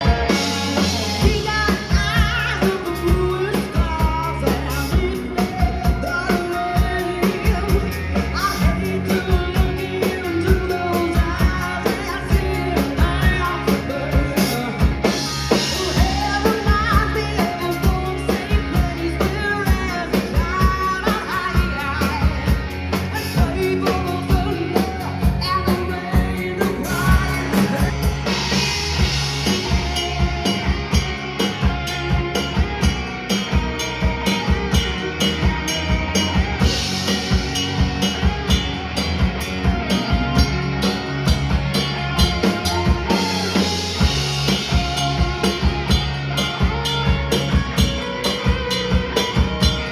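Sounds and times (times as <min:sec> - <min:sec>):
rock band with singer: 0:00.0 - 0:49.9.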